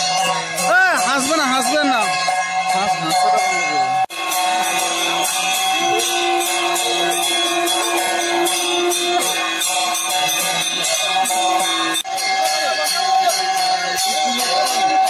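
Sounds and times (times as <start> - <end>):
droning music: 0.0 - 15.0
rhythmic jingling bells: 0.0 - 15.0.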